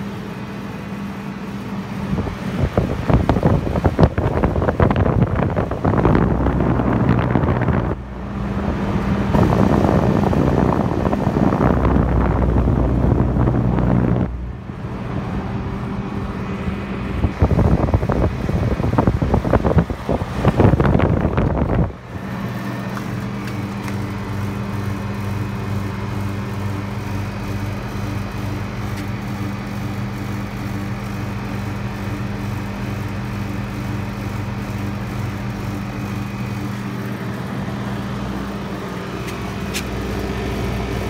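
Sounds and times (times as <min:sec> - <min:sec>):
air conditioner unit humming: 0:00.0 - 0:41.0
fan airflow rushing over microphone: 0:00.0 - 0:41.0.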